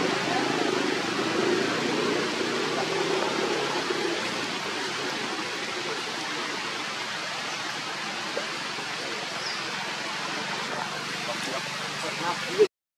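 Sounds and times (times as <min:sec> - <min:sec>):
steady outdoor hiss: 0:00.0 - 0:12.7.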